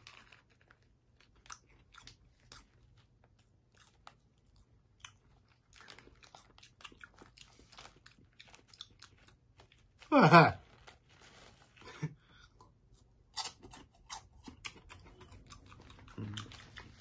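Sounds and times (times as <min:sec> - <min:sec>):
crunchy snack being chewed: 0:00.0 - 0:10.1, 0:13.3 - 0:17.0.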